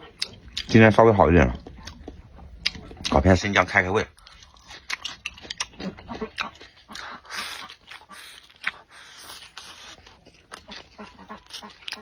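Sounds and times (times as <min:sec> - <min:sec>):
person chewing with mouth clicks: 0:00.0 - 0:12.0.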